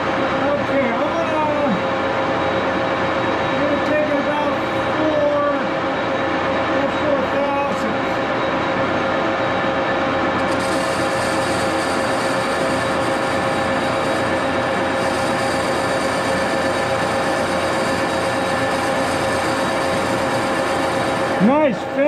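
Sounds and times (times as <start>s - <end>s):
lathe running: 0.0s - 22.0s.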